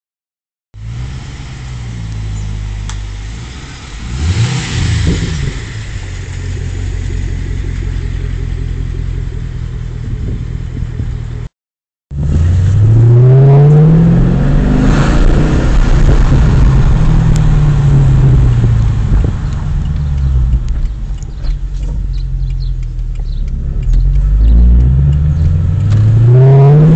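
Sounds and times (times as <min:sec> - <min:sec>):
car engine idling and revving: 0:00.8 - 0:11.5, 0:12.1 - 0:26.9.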